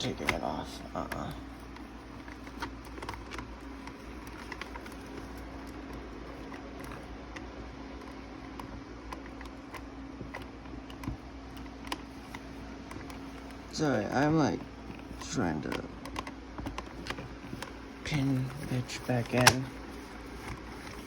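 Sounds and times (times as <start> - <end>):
clicks and taps of plastic parts: 0.0 - 21.0
steady low hum: 0.0 - 21.0.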